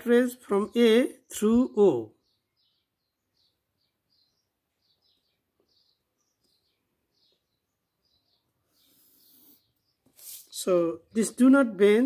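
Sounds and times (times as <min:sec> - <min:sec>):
faint high bird chirps: 0:00.0 - 0:12.0.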